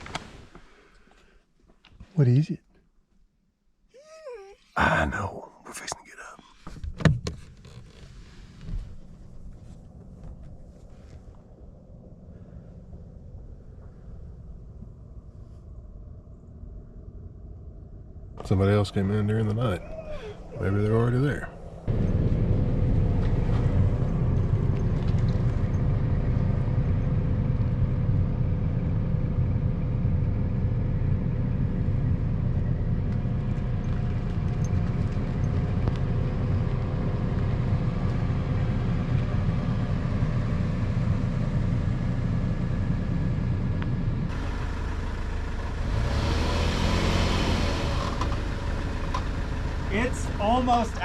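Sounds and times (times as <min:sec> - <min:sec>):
car engine and road noise: 0:00.0 - 0:02.6, 0:04.8 - 0:51.0.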